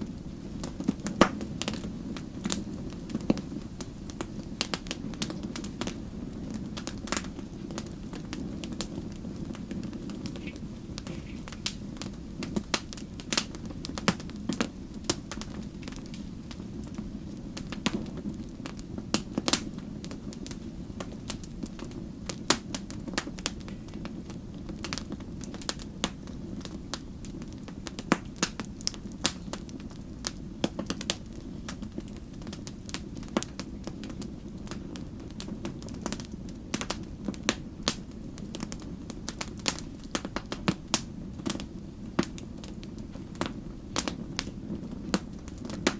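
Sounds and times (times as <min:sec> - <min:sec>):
fire flames rumbling: 0:00.0 - 0:45.9
campfire pops and snaps: 0:00.1 - 0:45.9.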